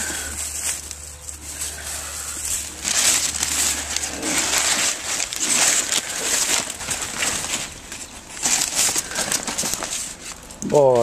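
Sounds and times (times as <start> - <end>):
paper crumpling: 0.0 - 11.0.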